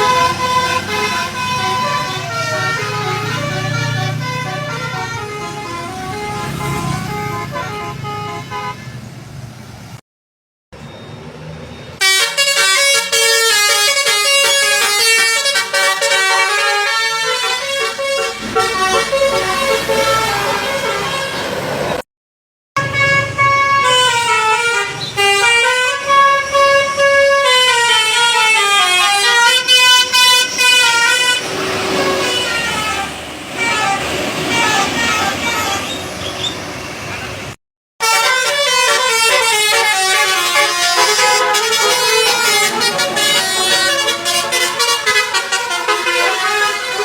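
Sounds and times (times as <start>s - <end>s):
musical bus air horn: 0.0s - 9.0s, 12.0s - 21.8s, 22.8s - 36.5s, 37.4s - 47.0s.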